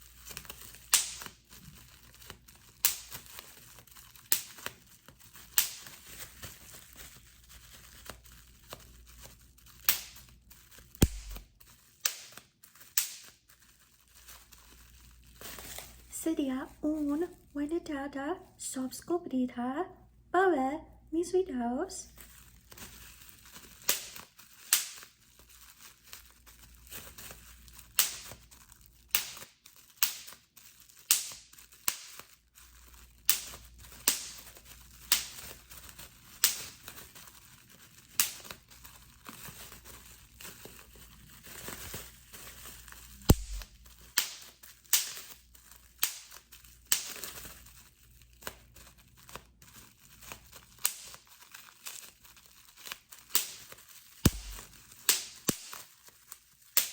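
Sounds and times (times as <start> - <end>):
bubble wrap popping: 0.0 - 17.5, 22.2 - 56.9
plastic crinkling: 0.0 - 17.6, 22.1 - 56.9.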